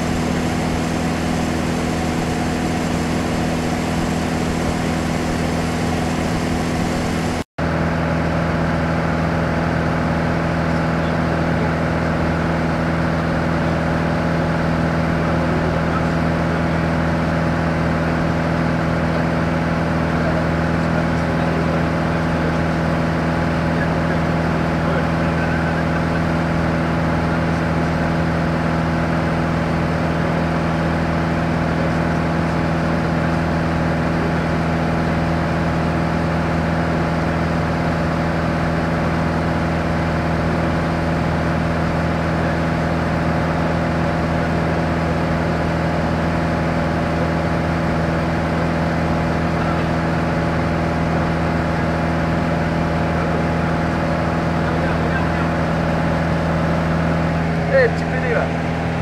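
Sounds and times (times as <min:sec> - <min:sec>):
aircraft engine drone: 0:00.0 - 0:59.0.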